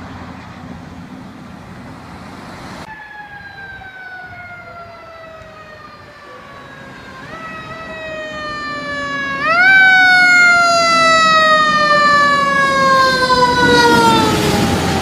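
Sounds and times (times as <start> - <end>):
engine and tyre noise: 0.0 - 15.0
fire engine siren wailing: 2.8 - 15.0.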